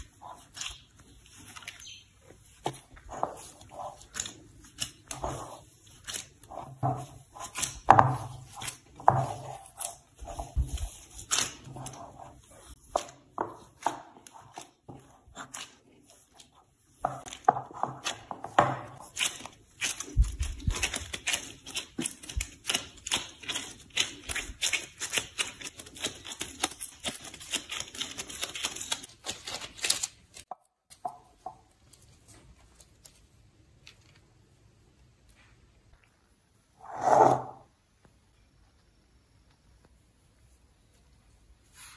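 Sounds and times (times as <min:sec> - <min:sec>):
gloved hands kneading dough: 0:00.0 - 0:41.9.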